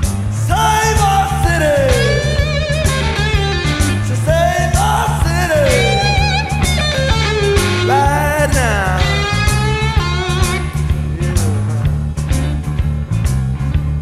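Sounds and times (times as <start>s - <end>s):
rock music with electric guitar: 0.0s - 14.0s.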